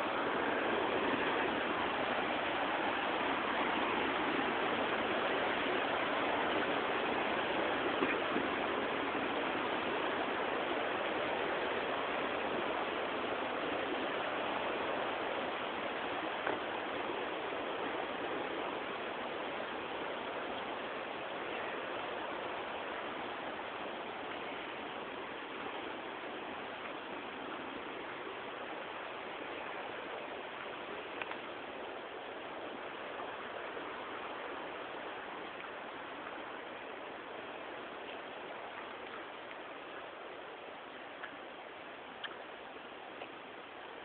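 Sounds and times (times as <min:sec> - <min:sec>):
fast-flowing river rushing: 0:00.0 - 0:44.0.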